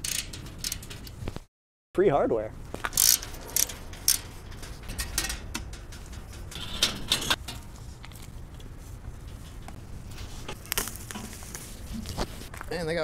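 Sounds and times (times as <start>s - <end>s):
steady low rumble: 2.5s - 13.0s.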